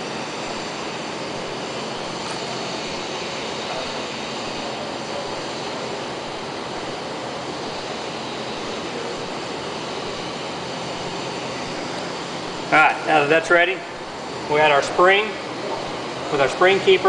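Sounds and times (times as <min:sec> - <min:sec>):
steady rushing fan noise: 0:00.0 - 0:17.0.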